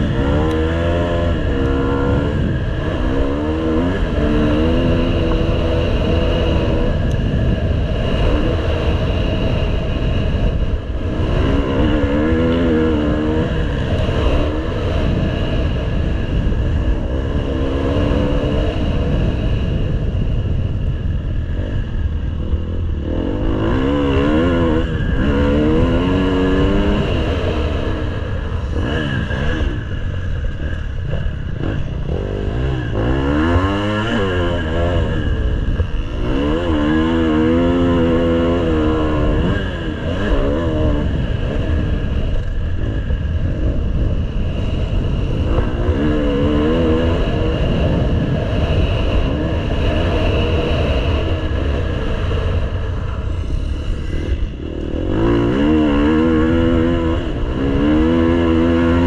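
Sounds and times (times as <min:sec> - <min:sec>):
motocross bike engine revving: 0:00.0 - 0:20.1, 0:21.6 - 0:59.0
constant low rumble: 0:00.0 - 0:59.0.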